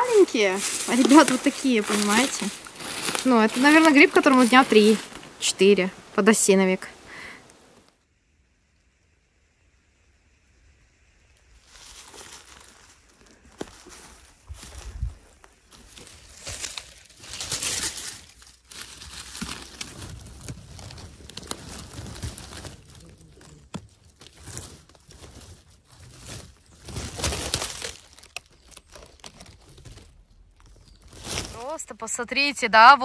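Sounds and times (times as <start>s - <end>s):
leaves and twigs crackling underfoot: 0.0s - 7.8s, 11.2s - 33.0s.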